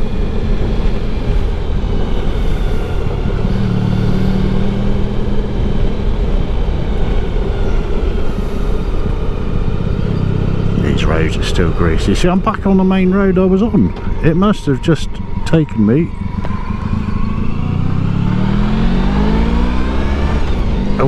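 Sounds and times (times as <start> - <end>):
motorcycle engine hum: 0.0 - 21.0
wind and road noise: 0.0 - 21.0.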